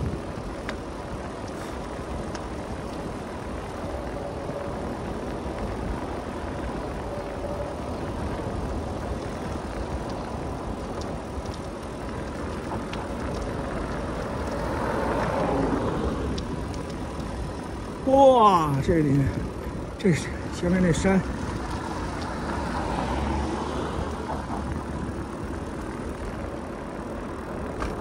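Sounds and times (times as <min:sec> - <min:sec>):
bicycle tyre noise on road: 0:00.0 - 0:28.0
wind rushing over microphone: 0:00.0 - 0:28.0.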